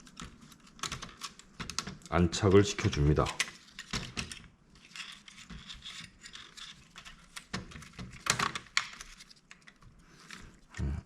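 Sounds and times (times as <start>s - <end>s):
laptop parts clicking and scraping: 0.0s - 2.1s, 2.9s - 10.8s.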